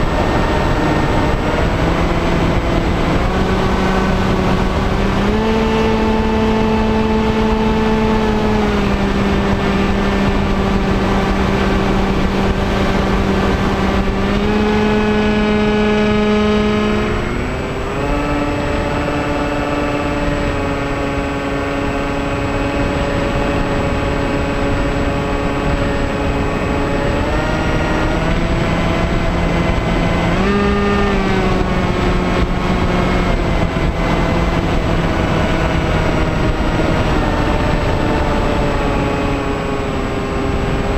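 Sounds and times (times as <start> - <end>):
model plane motor whining: 0.0 - 40.9.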